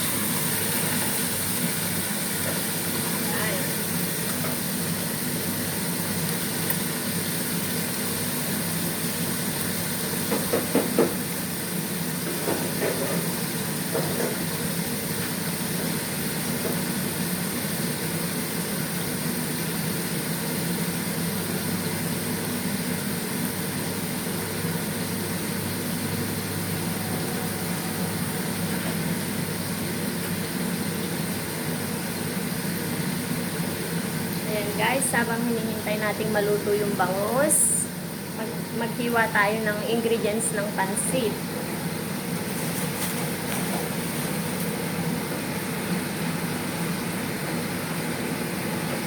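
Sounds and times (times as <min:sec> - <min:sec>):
fish frying in hot oil: 0:00.0 - 0:49.0
sharp popping from frying: 0:00.0 - 0:49.0.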